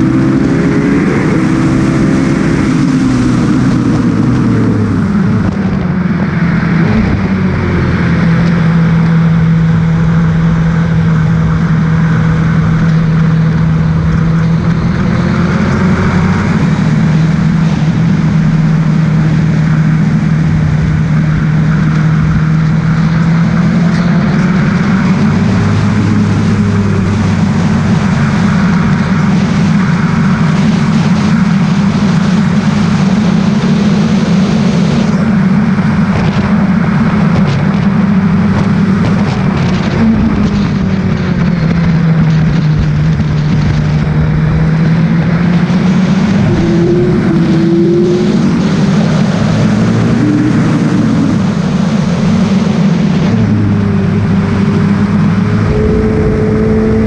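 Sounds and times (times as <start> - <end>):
racing car engine at speed: 0.0 - 57.0
steady rushing noise: 0.0 - 57.0.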